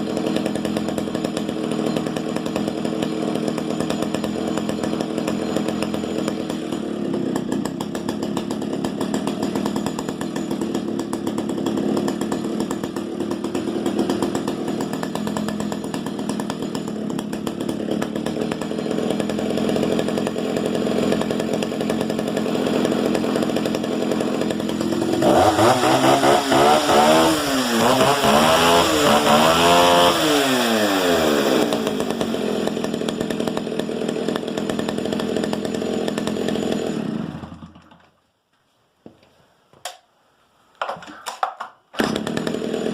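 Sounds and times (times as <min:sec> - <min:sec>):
chainsaw idling and revving: 0:00.0 - 0:38.1, 0:42.0 - 0:42.9.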